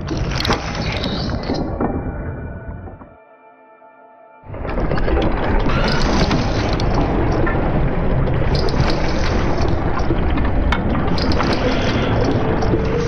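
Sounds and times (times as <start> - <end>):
machine rumbling: 0.0 - 3.2, 4.4 - 13.0.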